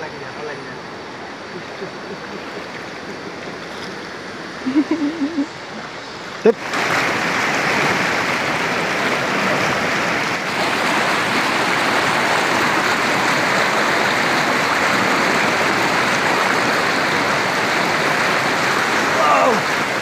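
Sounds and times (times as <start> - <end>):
river rapids rushing: 0.7 - 20.0.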